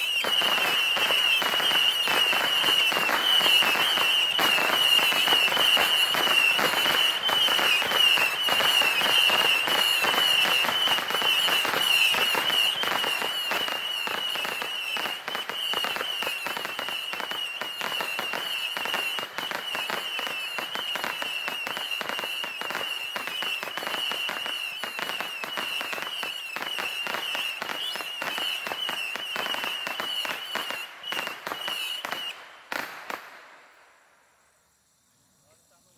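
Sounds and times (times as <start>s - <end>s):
firework battery popping shots: 0.0s - 34.8s
high firework whistle: 0.0s - 35.9s.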